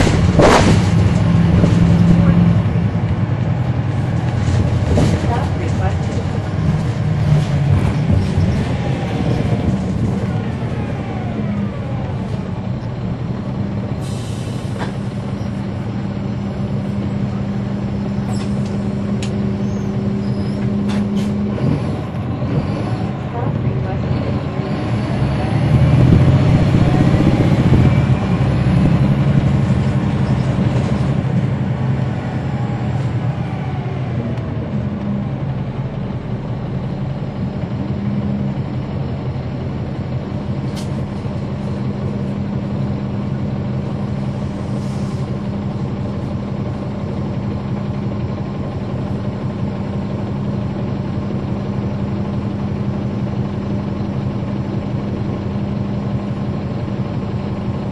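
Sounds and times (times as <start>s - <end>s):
bus diesel engine humming: 0.0s - 57.9s.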